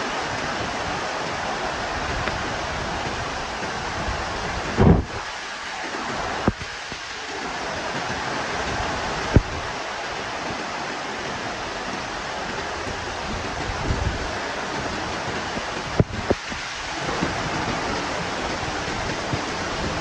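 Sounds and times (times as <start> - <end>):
heavy rain: 0.0 - 20.0
strong wind buffeting microphone: 0.0 - 20.0.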